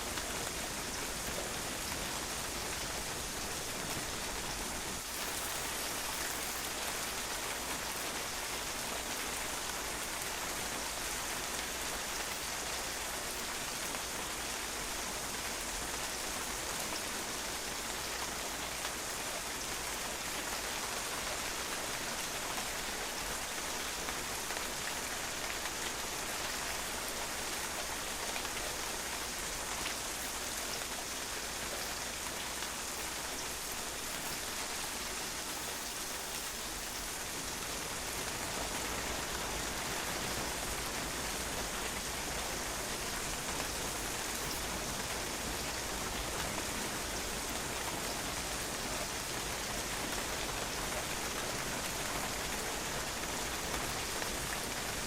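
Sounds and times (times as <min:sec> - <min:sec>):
rain falling on a patio: 0:00.0 - 0:55.0.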